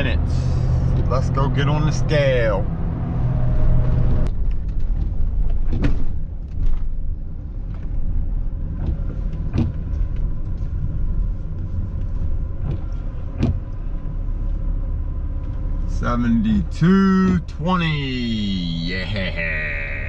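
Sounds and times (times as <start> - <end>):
pickup truck engine and road rumble: 0.0 - 20.0.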